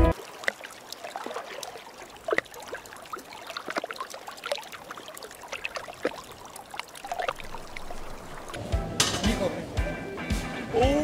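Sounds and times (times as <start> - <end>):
water trickling and splashing: 0.0 - 9.8.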